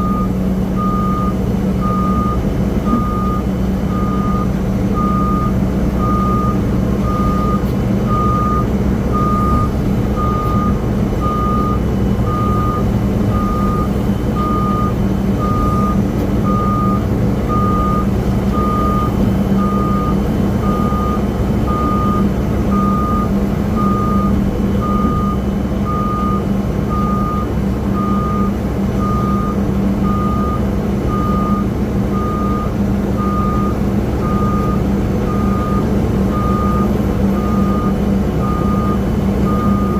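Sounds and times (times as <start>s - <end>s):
low engine rumble: 0.0s - 39.9s
reversing alarm beeping: 0.0s - 39.9s.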